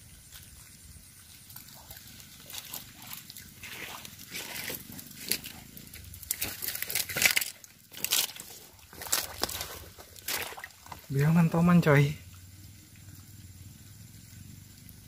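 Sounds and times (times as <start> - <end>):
water splashing and sloshing: 0.0 - 13.5.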